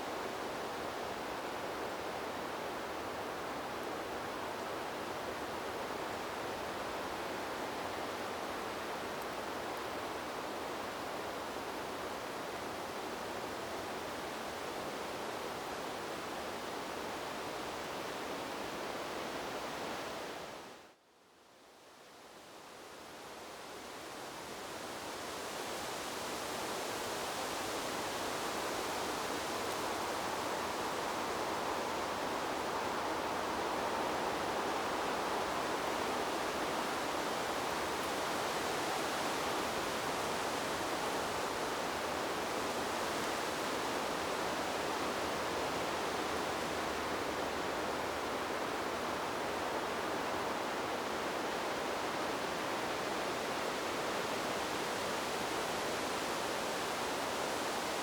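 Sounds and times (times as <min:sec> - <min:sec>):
wind blowing through trees: 0:00.0 - 0:58.0.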